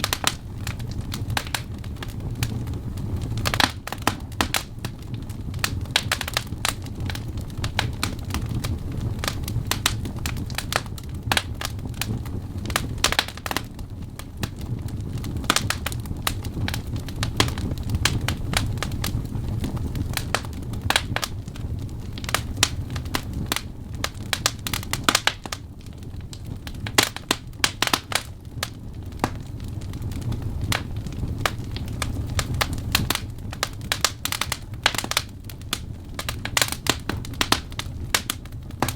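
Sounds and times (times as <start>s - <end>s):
logs crackling and popping: 0.0s - 38.9s
low rumble of flames: 0.0s - 38.9s.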